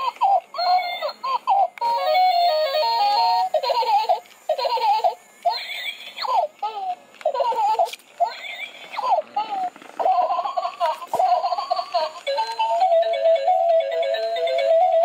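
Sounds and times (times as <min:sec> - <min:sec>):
toy baby giggles: 0:00.0 - 0:15.0.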